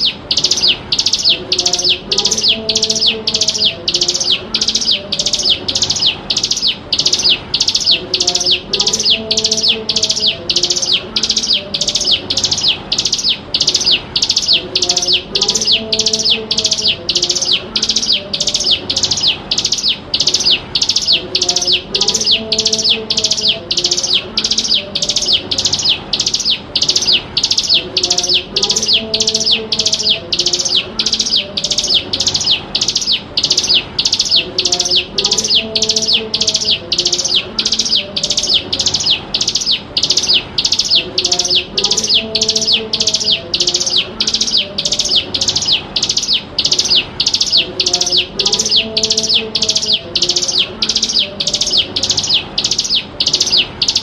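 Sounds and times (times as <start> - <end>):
faint low background sound: 0.0 - 54.0.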